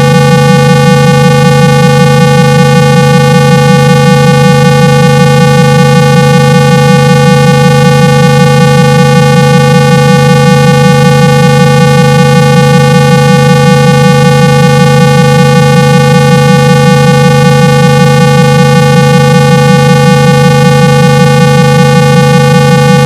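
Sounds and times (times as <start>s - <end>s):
buzzy synthesized tone: 0.0s - 23.0s.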